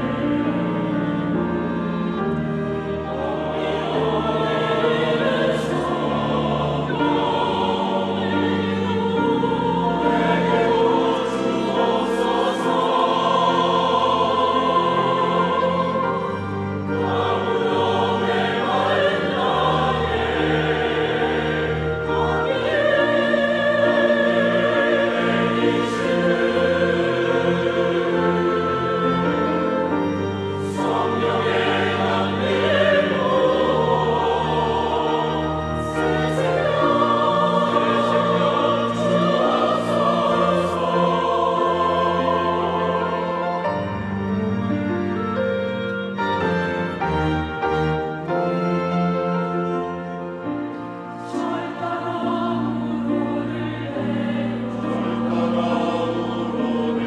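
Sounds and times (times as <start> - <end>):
choir singing a hymn: 0.0 - 57.0
instrumental accompaniment: 0.0 - 57.0.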